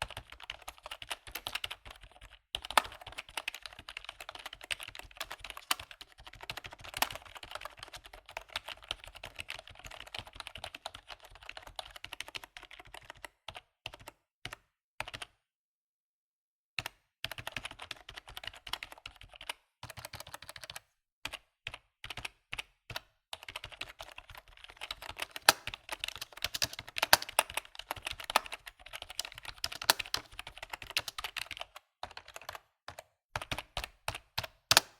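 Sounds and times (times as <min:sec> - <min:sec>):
keyboard typing: 0:00.0 - 0:14.1, 0:17.3 - 0:34.9.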